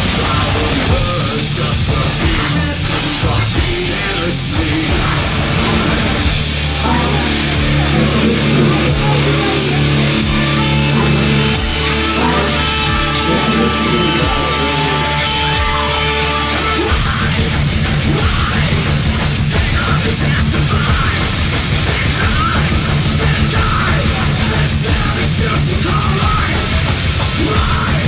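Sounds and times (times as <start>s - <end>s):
distorted electric guitar: 0.0s - 28.0s
heavy metal band playing: 0.0s - 28.0s.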